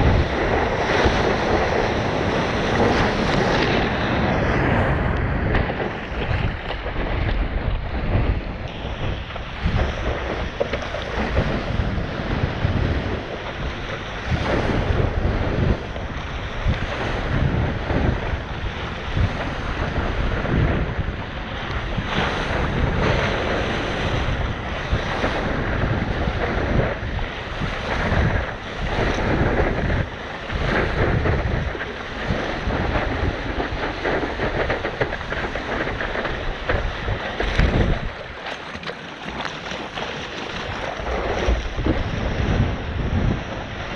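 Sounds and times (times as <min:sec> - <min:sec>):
sea rushing: 0:00.0 - 0:43.9
wind buffeting microphone: 0:00.0 - 0:43.9.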